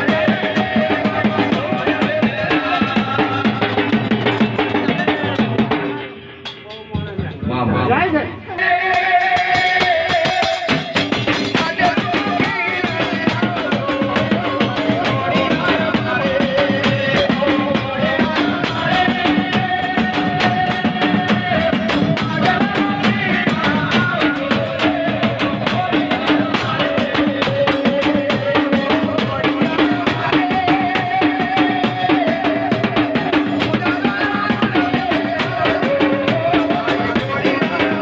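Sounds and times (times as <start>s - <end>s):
fast dense drumming: 0.0s - 7.5s, 8.9s - 38.0s.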